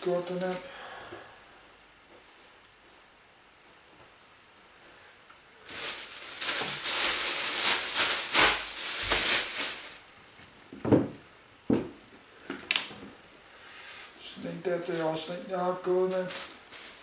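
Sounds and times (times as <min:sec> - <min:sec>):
clothes rustling and crinkling: 0:00.0 - 0:17.0.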